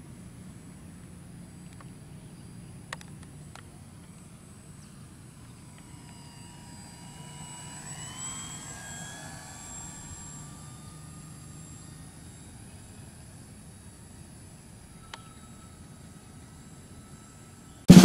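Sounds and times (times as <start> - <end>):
model plane motor and propeller whine: 0.0 - 18.0.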